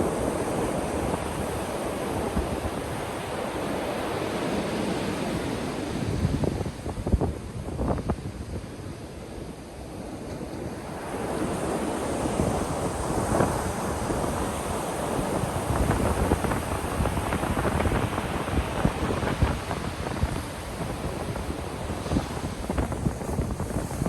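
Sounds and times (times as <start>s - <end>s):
ocean waves breaking: 0.0s - 6.4s, 9.8s - 24.0s
wind rumbling on microphone: 0.0s - 24.0s.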